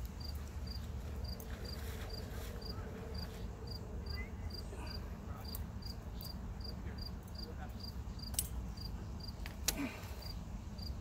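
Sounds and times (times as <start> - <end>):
cricket chirping: 0.2 - 9.4.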